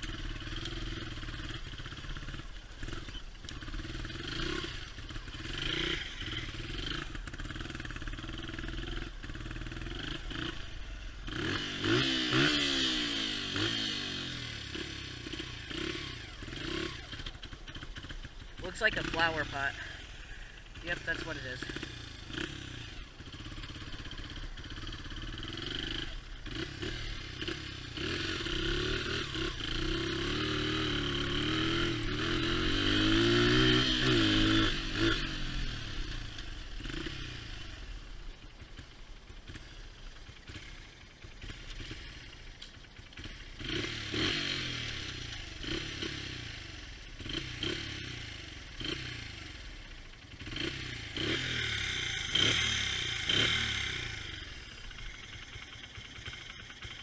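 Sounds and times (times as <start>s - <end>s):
dirt bike engine revving: 0.0s - 37.9s, 38.6s - 57.0s.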